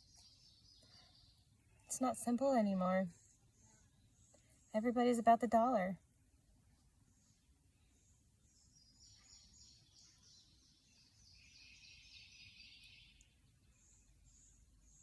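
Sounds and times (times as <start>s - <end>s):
faint bird chirps: 0.0s - 4.8s, 7.0s - 15.0s.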